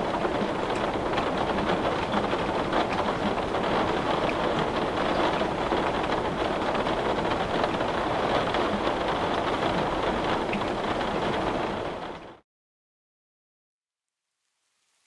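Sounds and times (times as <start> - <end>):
steady rain falling: 0.0 - 12.4.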